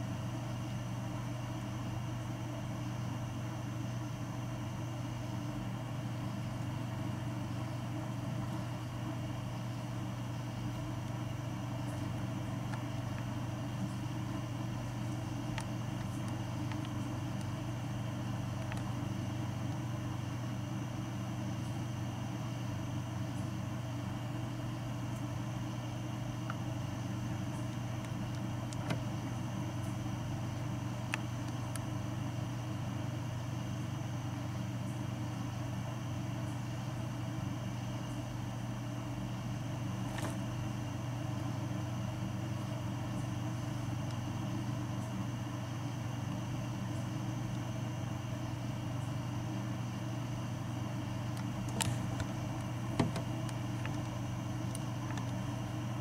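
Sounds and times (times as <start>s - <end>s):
low machine hum: 0.0s - 56.0s.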